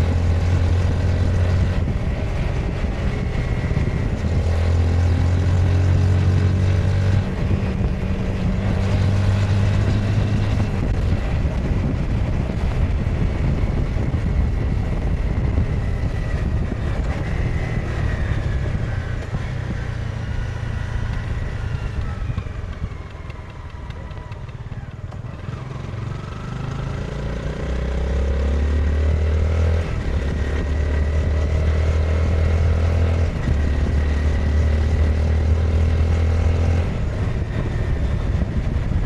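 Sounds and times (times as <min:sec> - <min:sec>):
motorcycle engine and exhaust: 0:00.0 - 0:39.0
wind on microphone: 0:00.0 - 0:39.0.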